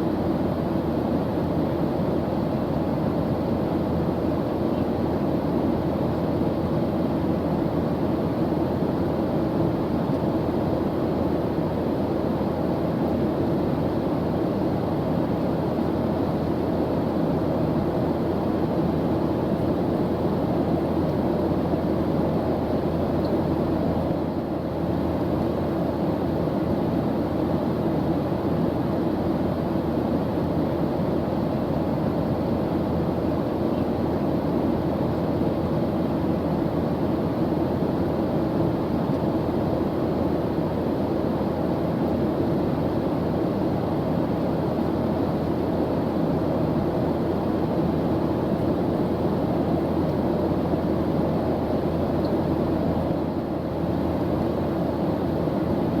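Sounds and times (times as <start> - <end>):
airplane engines droning: 0.0 - 56.0.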